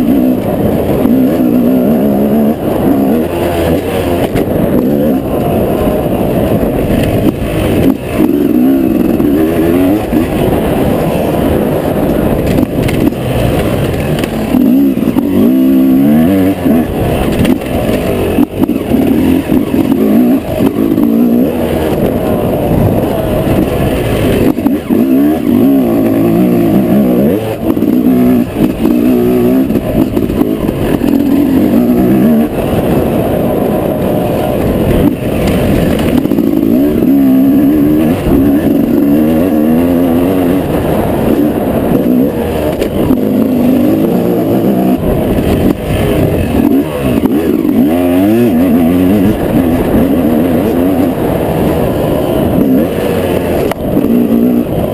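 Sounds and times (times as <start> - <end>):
motocross engine revving: 0.0 - 54.9.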